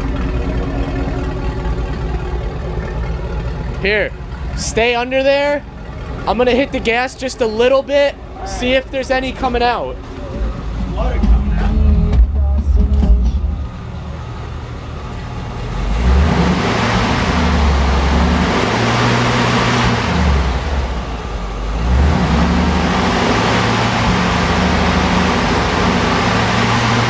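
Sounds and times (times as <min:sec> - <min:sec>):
car exhaust revving: 0:00.0 - 0:27.0.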